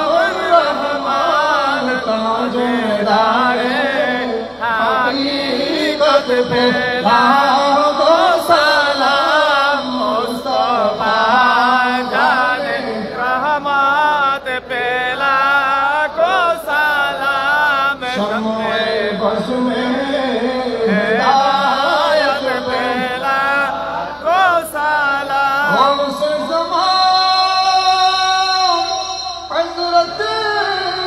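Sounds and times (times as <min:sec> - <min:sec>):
men chanting through microphones: 0:00.0 - 0:31.0.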